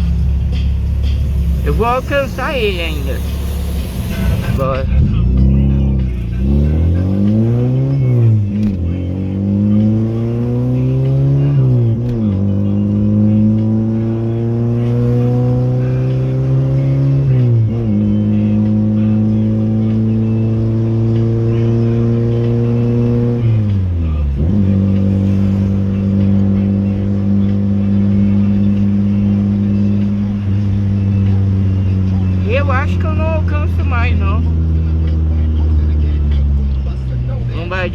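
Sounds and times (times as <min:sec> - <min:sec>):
car engine revving through gears: 0:00.0 - 0:37.9.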